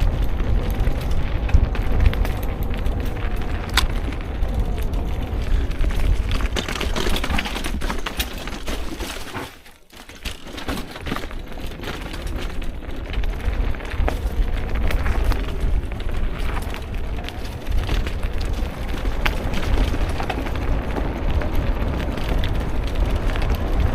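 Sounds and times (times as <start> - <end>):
car road noise rumble: 0.0 - 7.7, 12.3 - 23.9
crackles and knocks: 0.0 - 23.9.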